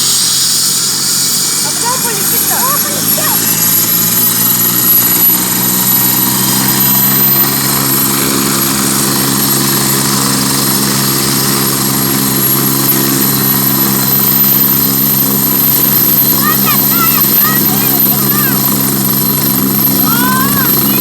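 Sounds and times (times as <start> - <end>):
helicopter high whine: 0.0 - 21.0
helicopter rotor beat: 0.0 - 21.0.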